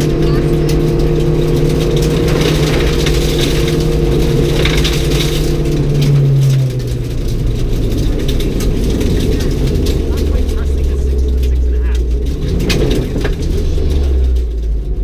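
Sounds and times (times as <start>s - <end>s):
gravel noise: 0.0s - 15.0s
rally car engine running hard: 0.0s - 15.0s
stones rattling against car: 0.0s - 15.0s.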